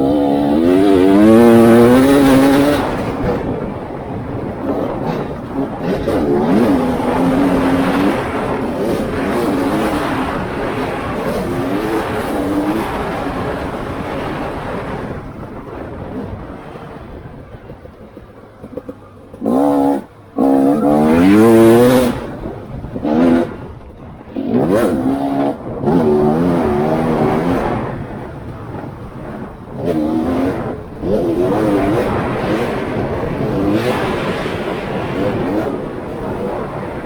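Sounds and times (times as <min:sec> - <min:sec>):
off-road vehicle engine revving: 0:00.0 - 0:37.0.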